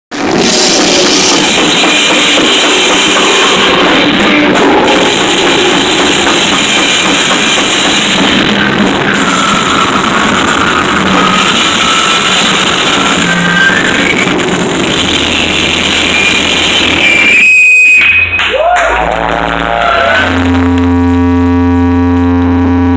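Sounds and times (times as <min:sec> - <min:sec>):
loud noise music: 0:00.1 - 0:22.9.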